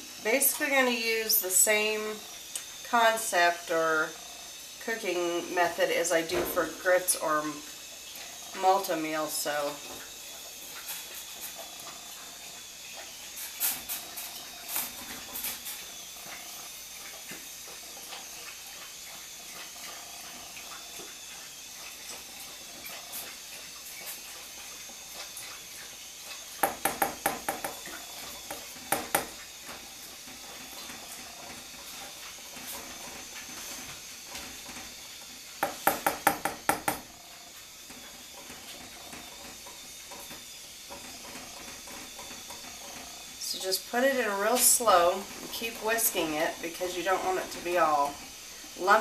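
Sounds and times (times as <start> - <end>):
gas stove hiss: 0.0 - 49.0.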